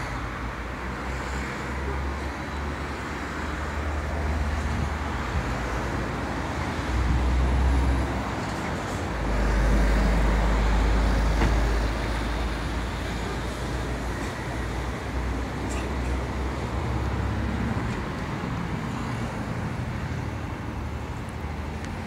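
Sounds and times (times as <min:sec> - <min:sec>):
road traffic hiss: 0:00.0 - 0:22.0.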